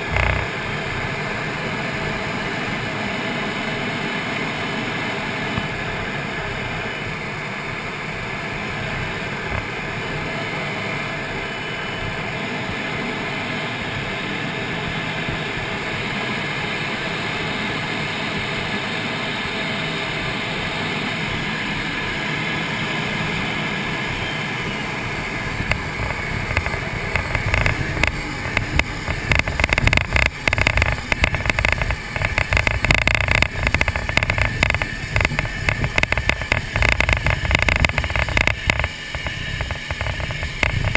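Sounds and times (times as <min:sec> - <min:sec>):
jet engine and airflow hiss: 0:00.0 - 0:40.9
rumble of wheels on runway: 0:00.0 - 0:40.9.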